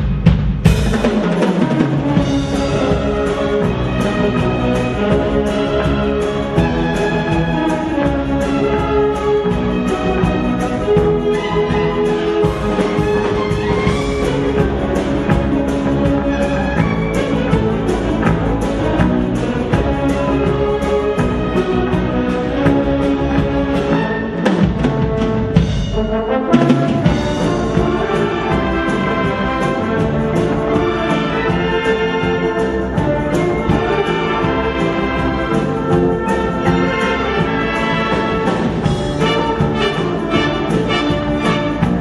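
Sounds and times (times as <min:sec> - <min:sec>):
orchestral music with brass: 0:00.0 - 0:42.0.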